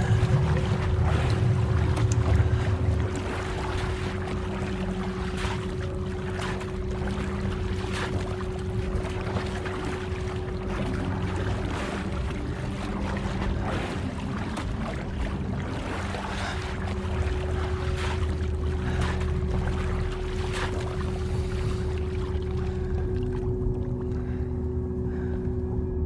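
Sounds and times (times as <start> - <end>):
low drone tone: 0.0 - 26.0
low rumbling ambience: 0.0 - 26.0.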